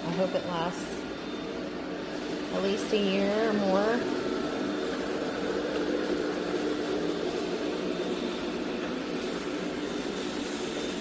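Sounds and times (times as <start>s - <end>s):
robot vacuum whirring: 0.1s - 11.0s.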